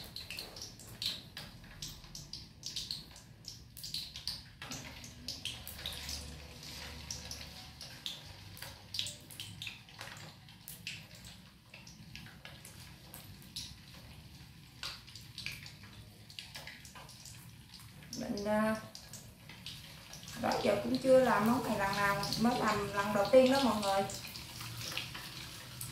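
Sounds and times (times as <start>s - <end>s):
eggs frying in hot oil: 0.0s - 25.9s.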